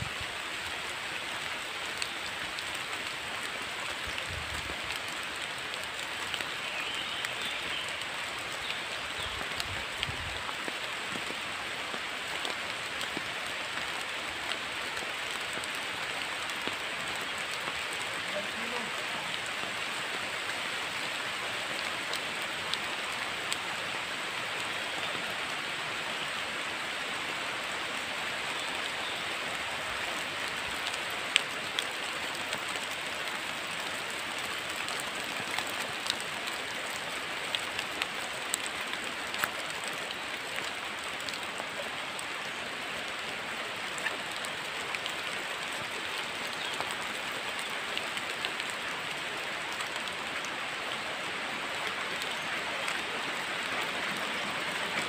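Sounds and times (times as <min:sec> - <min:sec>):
rain falling through trees: 0:00.0 - 0:55.0.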